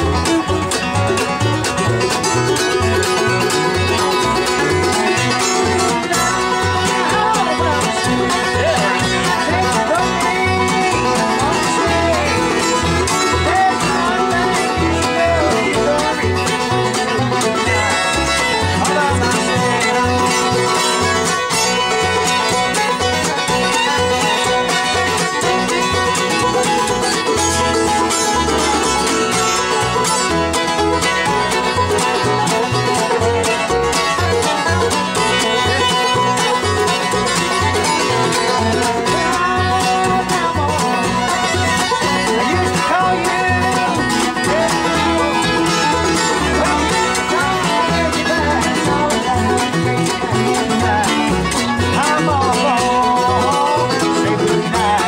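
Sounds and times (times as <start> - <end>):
acoustic guitar: 0.0 - 55.0
fiddle: 0.0 - 55.0
mandolin: 0.0 - 55.0
upright bass notes: 0.0 - 55.0.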